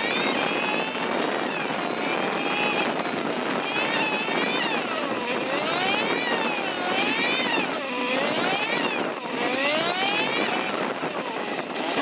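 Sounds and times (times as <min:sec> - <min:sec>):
motorcycle engine revving: 0:00.0 - 0:12.0
wind and road noise: 0:00.0 - 0:12.0.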